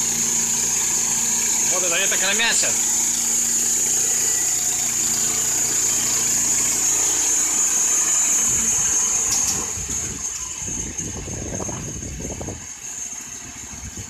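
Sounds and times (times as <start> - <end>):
irregular rattle: 0.0 - 14.0
sawmill engine with high whine: 0.0 - 14.0.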